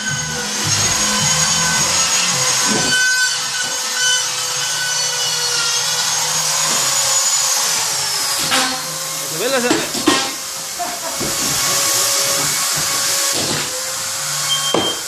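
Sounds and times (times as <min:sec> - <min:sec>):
hand tool scraping drywall: 0:00.2 - 0:05.9, 0:06.5 - 0:09.0, 0:09.6 - 0:13.9.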